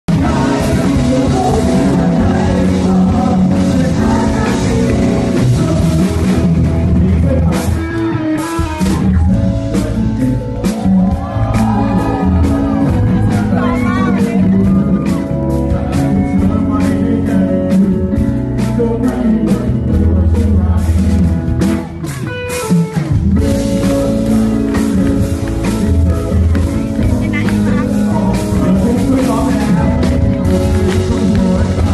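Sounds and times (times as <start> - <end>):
person singing: 0.1 - 31.9
rock music with guitar: 0.1 - 31.9
steady drum beat: 0.1 - 31.9.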